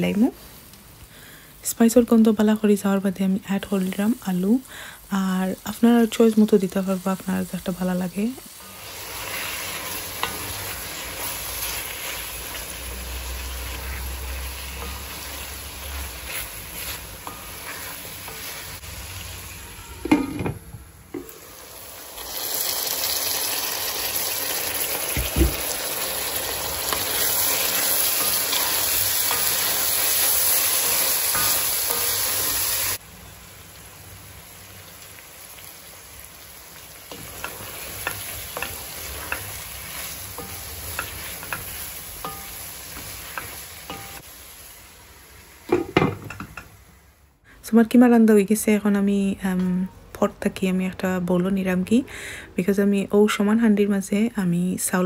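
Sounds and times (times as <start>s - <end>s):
meat sizzling in a pot: 1.8s - 20.5s, 21.2s - 47.1s.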